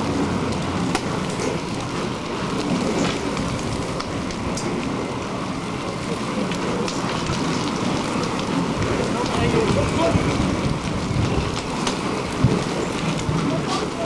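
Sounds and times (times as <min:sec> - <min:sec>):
bicycle tyres hissing on gravel: 0:00.0 - 0:14.0.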